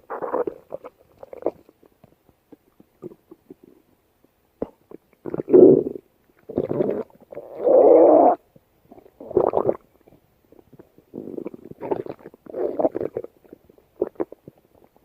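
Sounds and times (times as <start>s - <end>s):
stomach growling: 0.0s - 1.8s, 4.6s - 15.0s.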